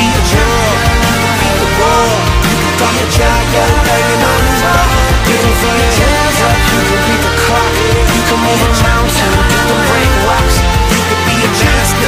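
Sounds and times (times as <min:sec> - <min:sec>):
pop music with steady beat: 0:00.0 - 0:12.0.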